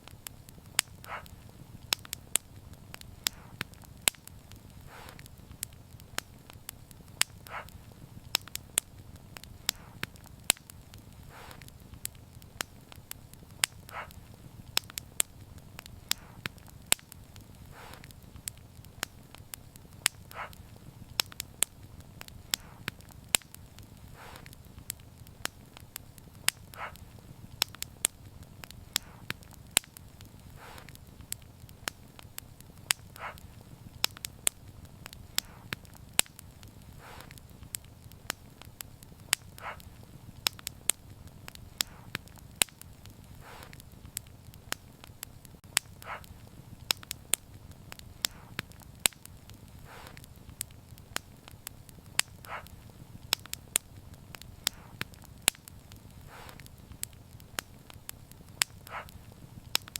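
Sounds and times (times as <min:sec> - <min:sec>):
flames rumbling: 0:00.0 - 0:59.9
wood fire crackling: 0:00.0 - 0:59.9.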